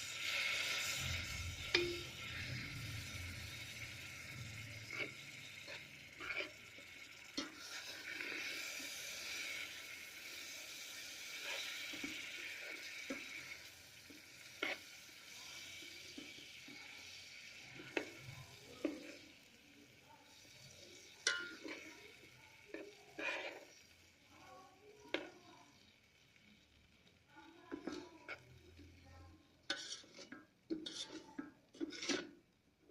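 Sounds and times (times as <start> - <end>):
spoon stirring and scraping: 0.0 - 25.9, 27.4 - 32.9
semolina sizzling in butter: 0.0 - 32.9.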